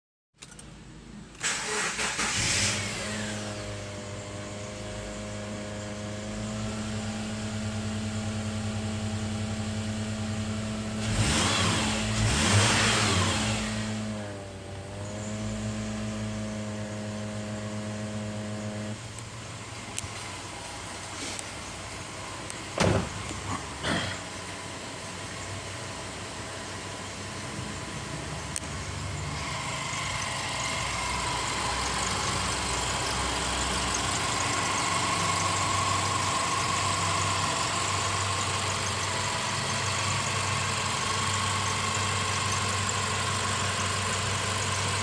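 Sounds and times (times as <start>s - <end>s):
car engine starting and idling: 0.4s - 45.0s
car engine revving: 1.4s - 45.0s.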